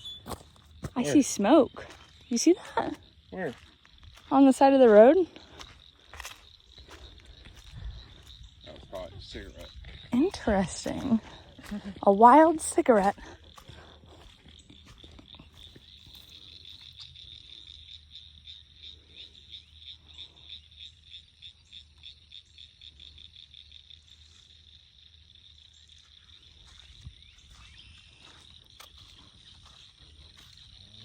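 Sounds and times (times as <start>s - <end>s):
frogs calling in chorus: 0.0s - 31.0s.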